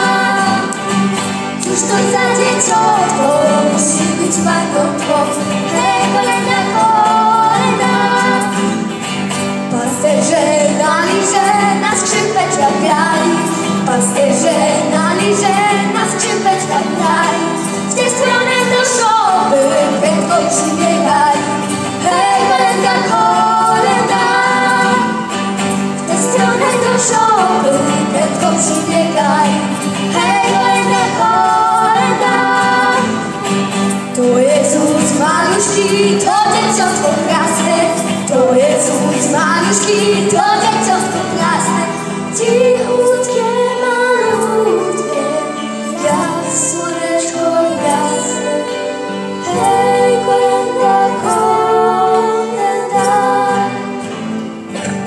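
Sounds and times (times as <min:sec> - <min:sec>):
woman singing: 0:00.0 - 0:54.3
electric guitar: 0:00.0 - 0:55.0
keyboards: 0:00.0 - 0:55.0
live band playing carol: 0:00.0 - 0:55.0.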